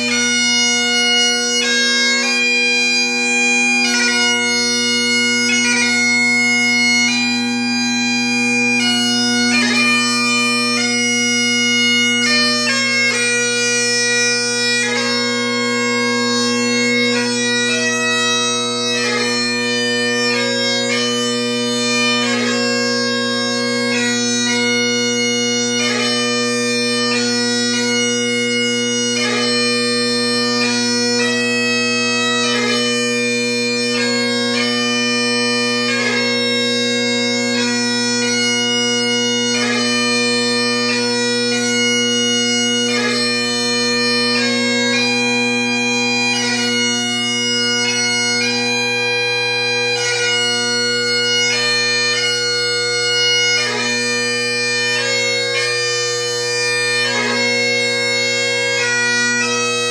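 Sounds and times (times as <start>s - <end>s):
bagpipe chanter melody: 0.0s - 59.9s
bagpipe drones: 0.0s - 59.9s.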